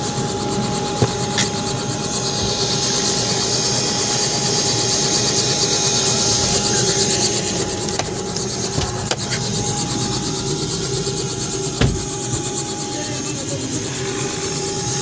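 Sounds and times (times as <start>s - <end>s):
helicopter rotor flutter: 0.0s - 15.0s
helicopter turbine whine: 0.0s - 15.0s.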